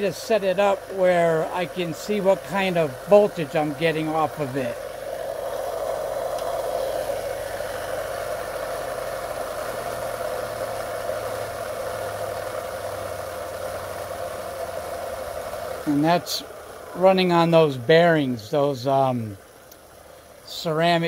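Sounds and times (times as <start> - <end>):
motor rotor spinning: 0.0 - 21.0.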